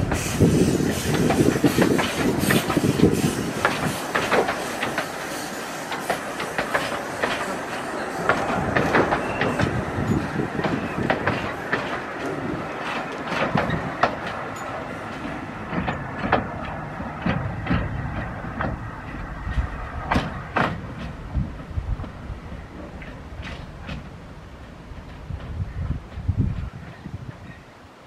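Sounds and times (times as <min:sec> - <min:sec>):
train wheels clicking over rail joints: 0:00.0 - 0:27.5.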